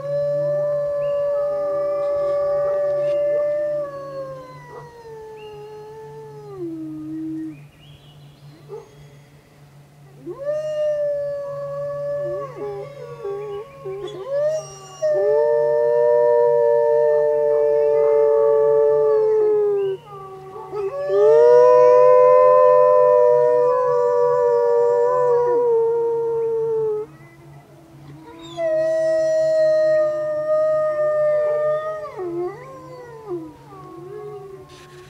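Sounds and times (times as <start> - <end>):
wolves howling in chorus: 0.0 - 7.6, 10.1 - 27.2, 27.9 - 35.0.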